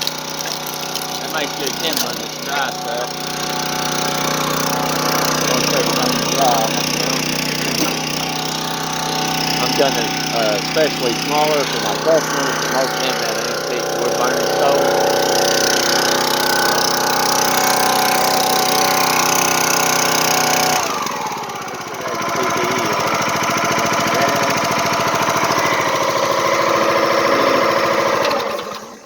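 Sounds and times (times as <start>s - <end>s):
chainsaw engine revving: 0.0s - 29.0s.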